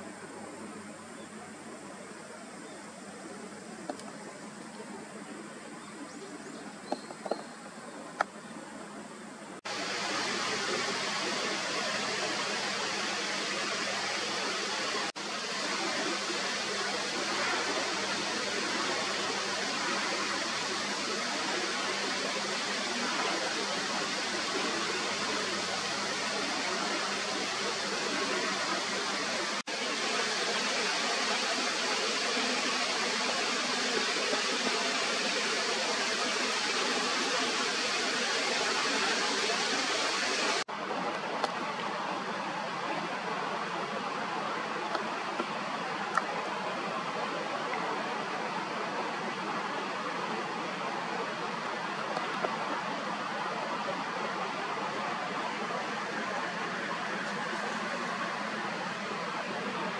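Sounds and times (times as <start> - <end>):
river water rushing: 9.7 - 59.9.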